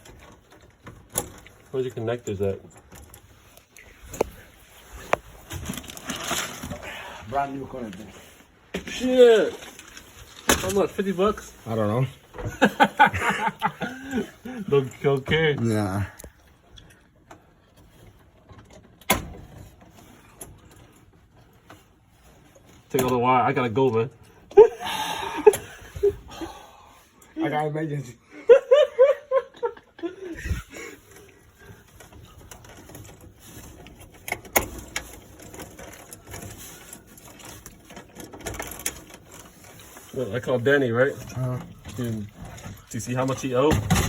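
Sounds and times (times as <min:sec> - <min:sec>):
tools and parts clattering: 0:00.0 - 0:24.7, 0:29.6 - 0:44.0.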